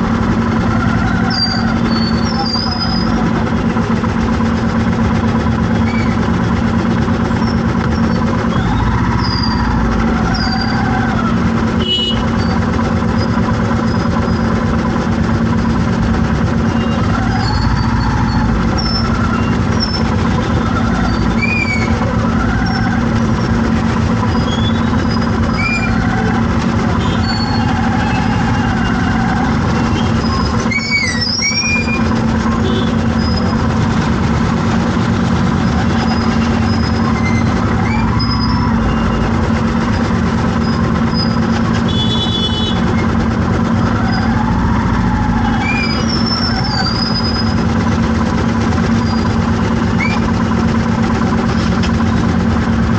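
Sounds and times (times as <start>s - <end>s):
vehicle engine drone: 0.0s - 52.9s.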